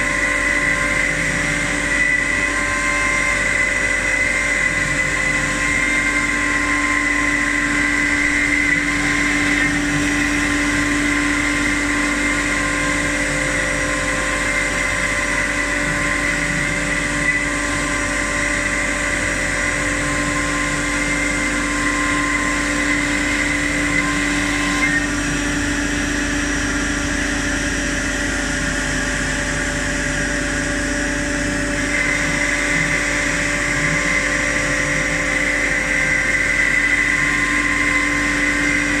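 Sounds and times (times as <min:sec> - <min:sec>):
cnc machine motor whine: 0:00.0 - 0:39.0.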